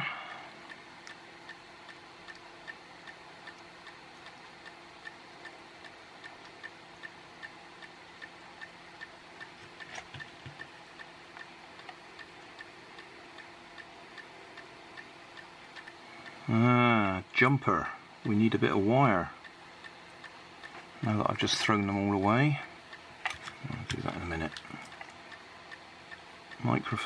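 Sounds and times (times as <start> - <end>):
clock ticking: 0.0 - 27.0.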